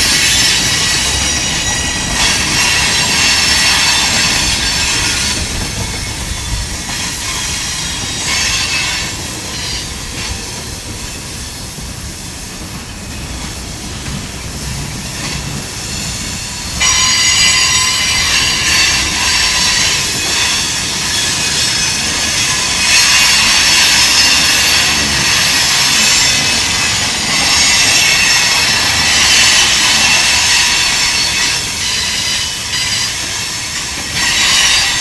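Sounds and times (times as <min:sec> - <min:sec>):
high-pitched metallic wheel squeal: 0:00.0 - 0:05.5, 0:06.2 - 0:10.6, 0:15.9 - 0:35.0
steel wheels rumbling on rail: 0:00.0 - 0:35.0.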